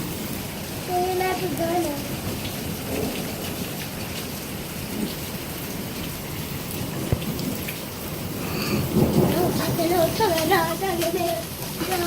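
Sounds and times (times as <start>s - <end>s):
low rumble of thunder: 0.0s - 3.8s, 4.4s - 12.0s
steady rain falling: 0.0s - 12.0s.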